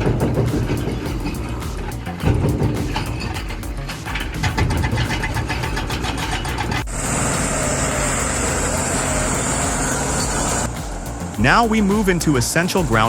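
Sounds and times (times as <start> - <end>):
diesel engine clattering: 0.0 - 13.0
engine with high hiss: 0.0 - 13.0.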